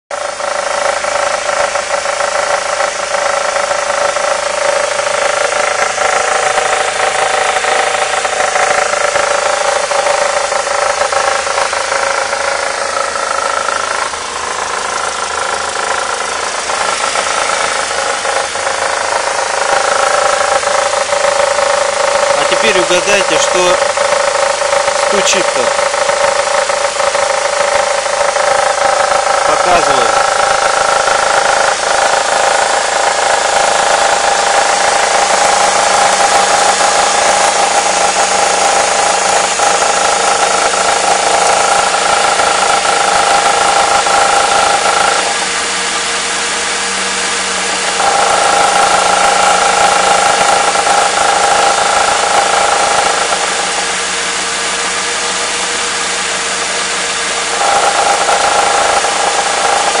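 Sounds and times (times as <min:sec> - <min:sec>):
car engine idling with knock: 0:00.1 - 1:00.0
steady whine: 0:00.1 - 1:00.0.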